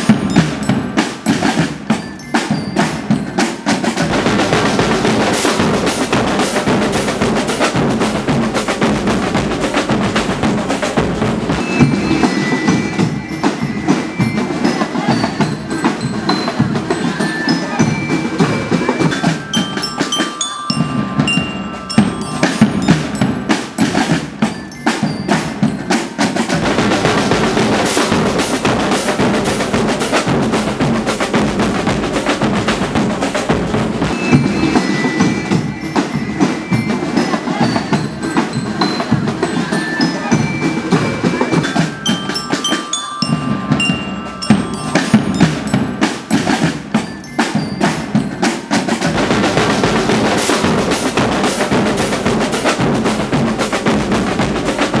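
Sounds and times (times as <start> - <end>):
glockenspiel notes: 0.0 - 55.0
marching band playing: 0.0 - 55.0
snare and bass drums: 0.0 - 55.0.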